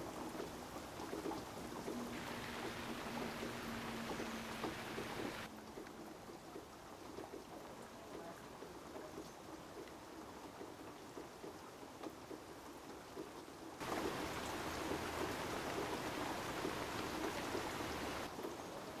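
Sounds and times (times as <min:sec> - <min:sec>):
water pattering: 0:00.0 - 0:18.6
rushing water: 0:00.0 - 0:19.0.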